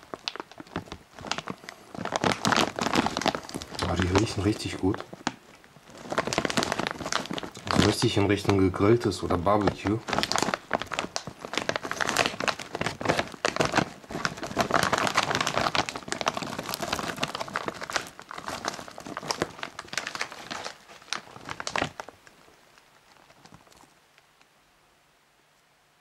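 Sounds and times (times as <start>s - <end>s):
foil snack bag crinkling: 0.0s - 24.2s.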